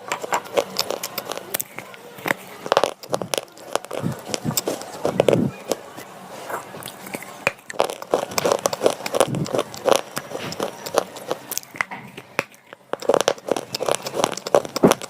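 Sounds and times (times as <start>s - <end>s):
slate pencil crunching in mouth: 0.0s - 15.0s.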